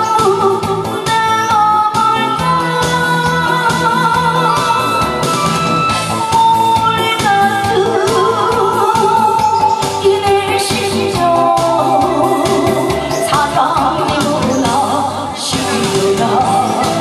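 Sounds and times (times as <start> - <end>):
woman singing: 0.0 - 5.4, 6.2 - 17.0
amplified instrumental music: 0.0 - 17.0.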